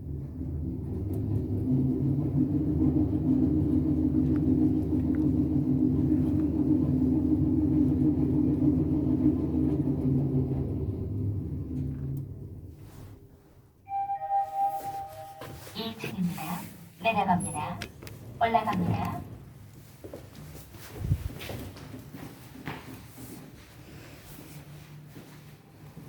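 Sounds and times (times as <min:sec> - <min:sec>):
elevator rumble and hum: 0:00.0 - 0:26.0.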